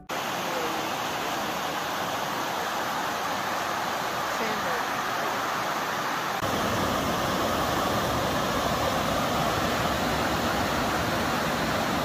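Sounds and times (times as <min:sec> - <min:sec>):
river water rushing over rocks: 0:00.1 - 0:12.0.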